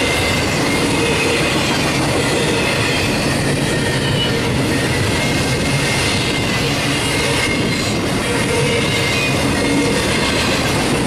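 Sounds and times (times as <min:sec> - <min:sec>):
high wheel squeal: 0:00.0 - 0:11.0
train wheels rumbling on rails: 0:00.0 - 0:11.0.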